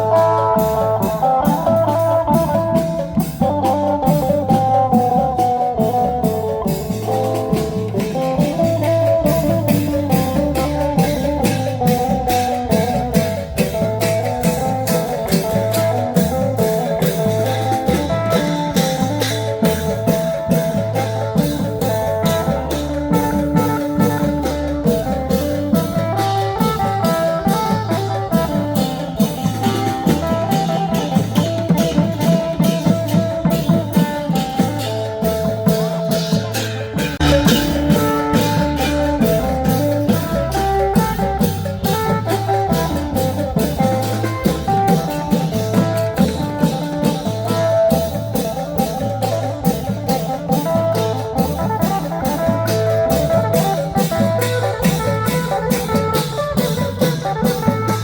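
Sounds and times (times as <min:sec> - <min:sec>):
bass line: 0:00.0 - 0:58.0
fast drumbeat: 0:00.0 - 0:58.0
festive band music: 0:00.0 - 0:58.0
plucked guitar-like melody: 0:00.0 - 0:58.0.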